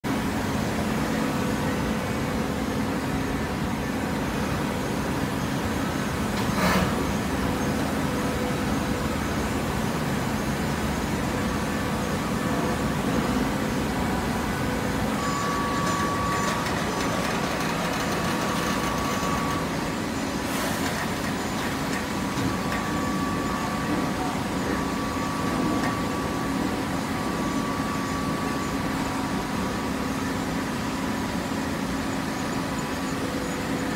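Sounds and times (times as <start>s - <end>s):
hydraulic power unit humming: 0.1s - 33.9s.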